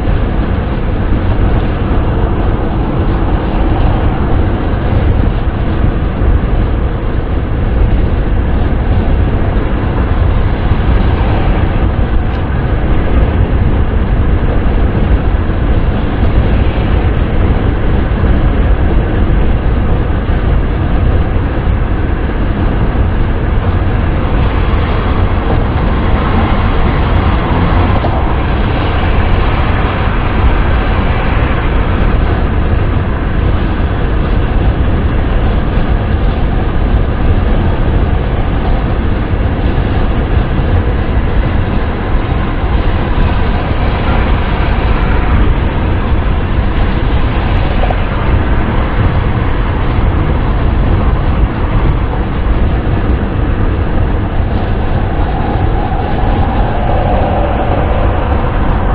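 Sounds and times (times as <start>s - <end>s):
wind and road noise inside car: 0.0s - 58.9s.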